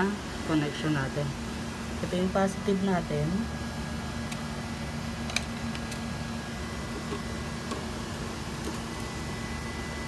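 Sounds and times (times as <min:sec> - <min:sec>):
equipment humming: 0:00.0 - 0:10.0.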